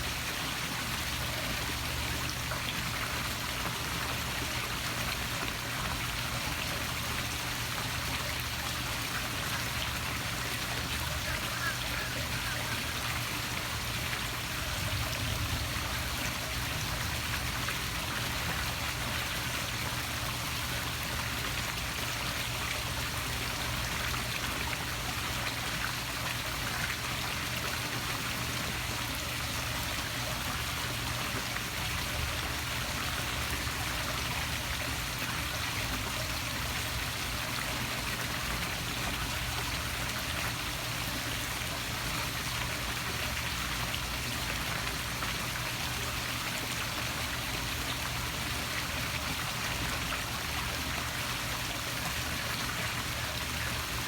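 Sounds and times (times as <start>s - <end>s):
waterfall splashing into pool: 0.0s - 54.0s.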